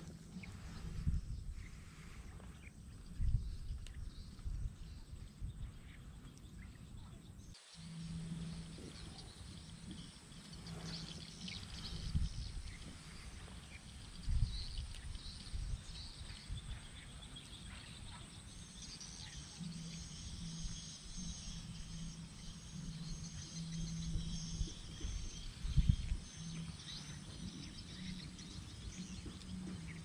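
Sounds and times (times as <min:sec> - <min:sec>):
insects chirping: 0:00.0 - 0:30.0
low hum: 0:00.0 - 0:30.0
wind rumbling on microphone: 0:00.0 - 0:30.0.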